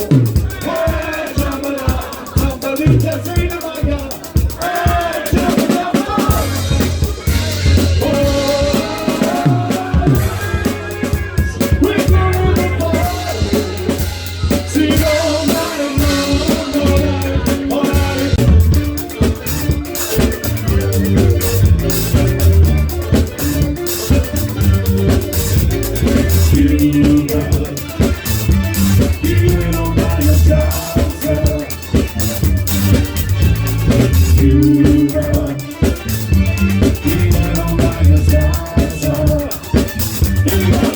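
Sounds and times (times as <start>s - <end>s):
drum kit: 0.0s - 40.9s
live soul band playing: 0.0s - 40.9s
person singing: 0.0s - 40.9s.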